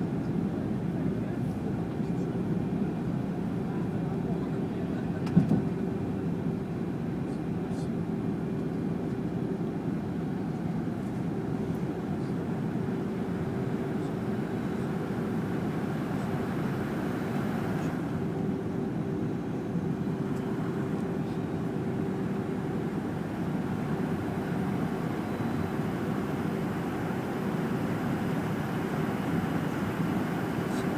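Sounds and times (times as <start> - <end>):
jet airliner cabin drone: 0.0 - 30.9.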